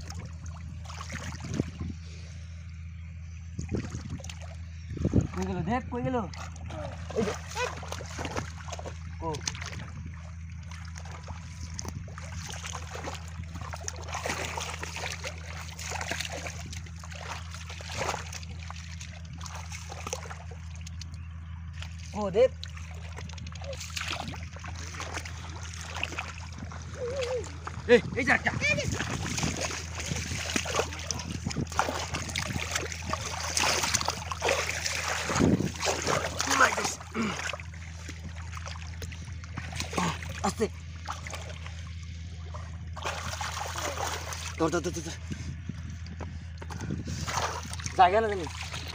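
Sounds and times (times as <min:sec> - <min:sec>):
shallow water splashing: 0:00.0 - 0:48.9.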